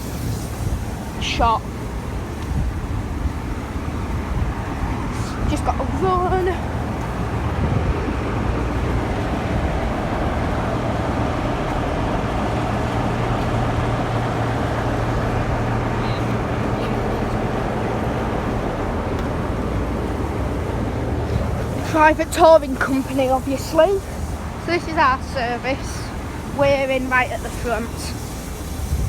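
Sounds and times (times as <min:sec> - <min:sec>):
diesel locomotive engine idling: 0:00.0 - 0:29.0.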